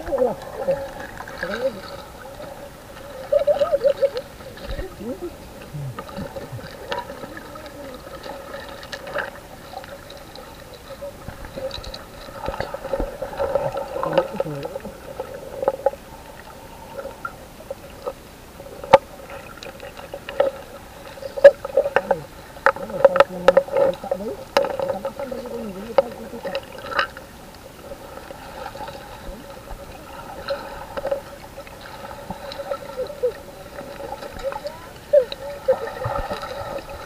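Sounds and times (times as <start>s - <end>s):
muffled underwater hum: 0.0s - 37.0s
underwater bubbling and splashing: 0.0s - 37.0s.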